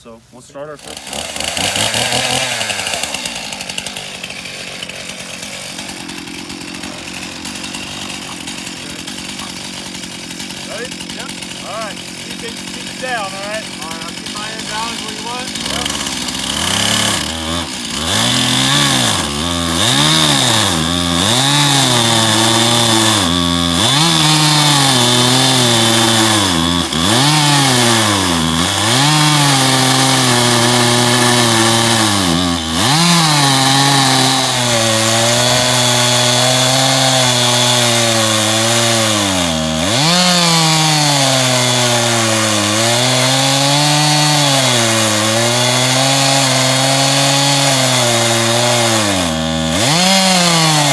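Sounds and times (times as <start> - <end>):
chainsaw cutting log: 0.6 - 50.9.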